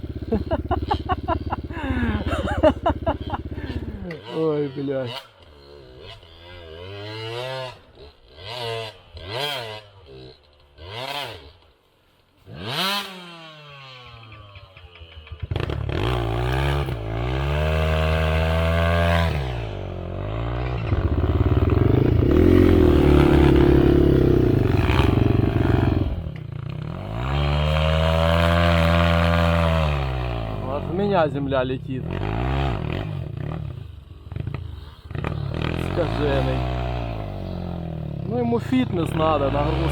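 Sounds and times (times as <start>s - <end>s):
dirt bike engine revving: 0.0s - 11.7s, 12.4s - 39.9s.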